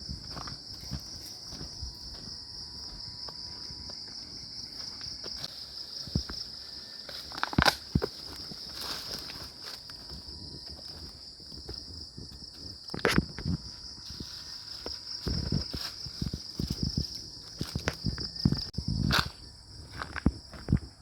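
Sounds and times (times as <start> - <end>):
footsteps: 0.0 - 21.0
night insects chirping: 0.0 - 21.0.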